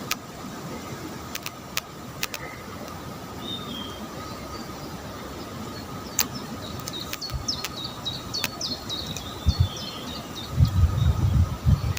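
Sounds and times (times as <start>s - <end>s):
songbird chirping: 1.4s - 11.9s.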